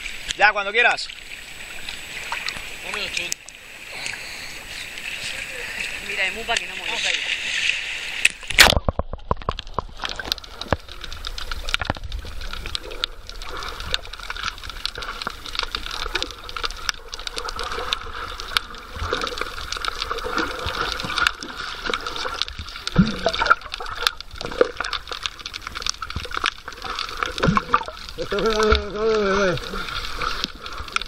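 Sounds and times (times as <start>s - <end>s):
muffled underwater water wash: 0.0s - 31.0s.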